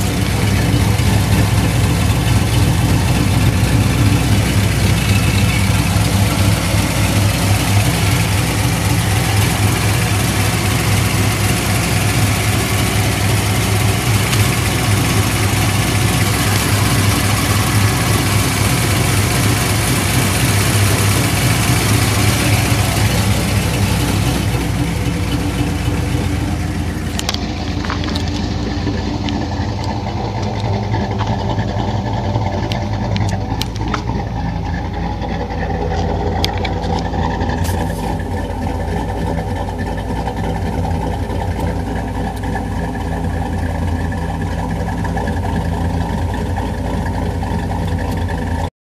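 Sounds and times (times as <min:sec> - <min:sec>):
lopey engine idling: 0:00.0 - 0:48.7.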